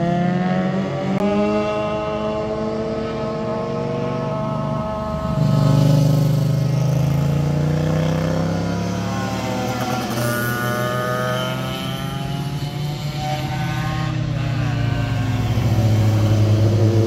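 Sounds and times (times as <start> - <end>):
motorcycle engines passing: 0.0 - 17.0.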